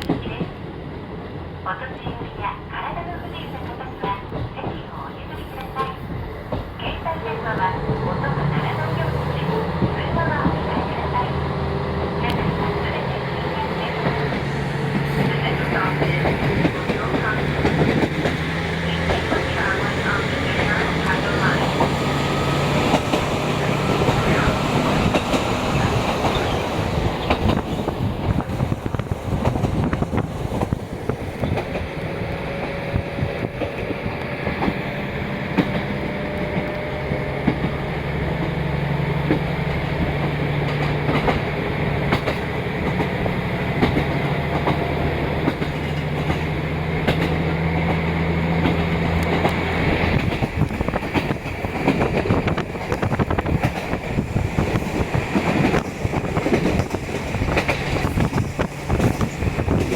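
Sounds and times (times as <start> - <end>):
clickety-clack of train wheels: 0.0 - 0.6, 1.8 - 59.9.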